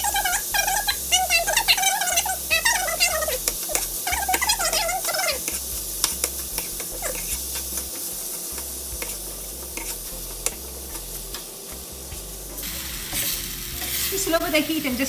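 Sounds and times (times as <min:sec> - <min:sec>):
spoon scraping pan: 0:00.0 - 0:14.8
food sizzling in frying pan: 0:00.0 - 0:15.0.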